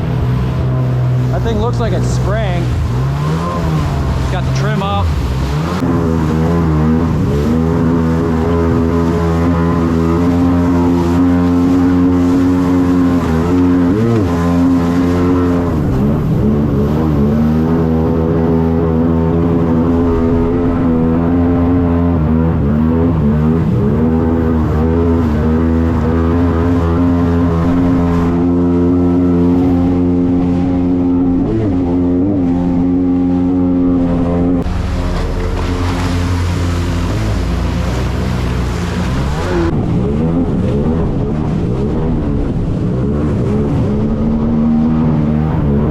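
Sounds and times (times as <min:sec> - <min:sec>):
jet ski engine running: 0:00.0 - 0:45.9.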